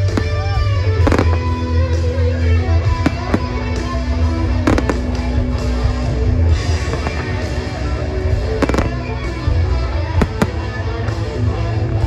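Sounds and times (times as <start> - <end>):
live rock music: 0.0 - 12.0.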